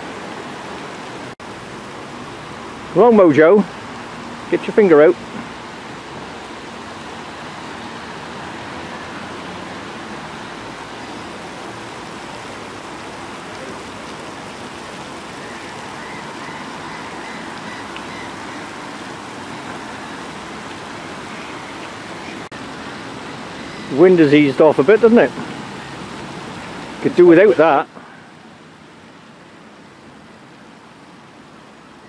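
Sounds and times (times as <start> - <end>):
wind blowing: 0.0 - 31.9.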